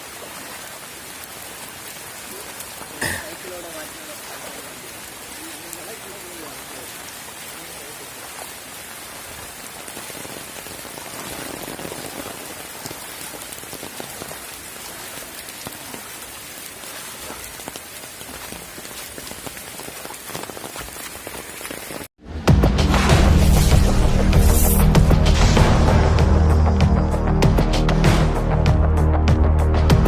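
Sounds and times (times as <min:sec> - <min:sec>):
rain on a hard surface: 0:00.0 - 0:22.2, 0:23.0 - 0:27.7.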